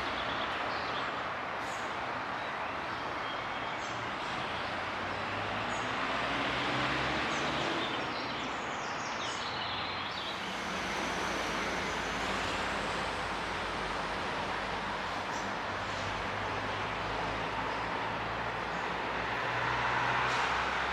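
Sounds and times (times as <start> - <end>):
distant city traffic rumble: 0.0 - 20.9.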